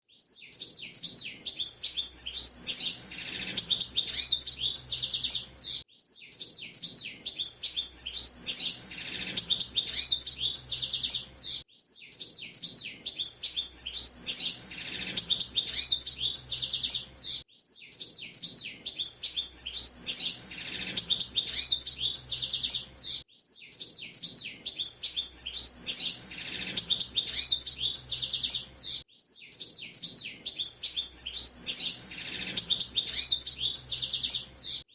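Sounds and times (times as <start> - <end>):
songbird twittering warble: 0.1 - 34.9.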